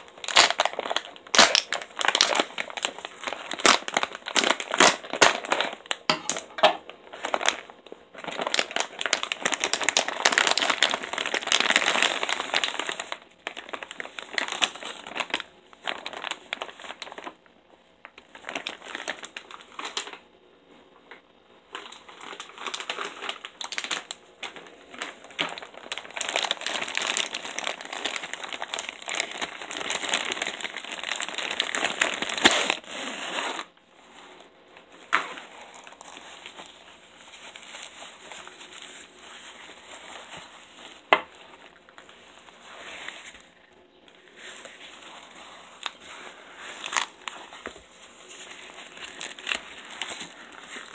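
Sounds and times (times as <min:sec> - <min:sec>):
foil and plastic bags crinkling: 0:00.0 - 0:20.2, 0:21.7 - 0:50.9.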